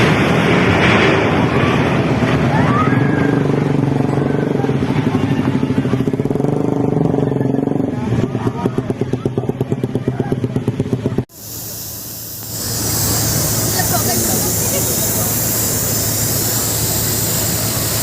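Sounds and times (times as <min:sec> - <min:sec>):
engine running with rhythmic throb: 0:00.0 - 0:18.0.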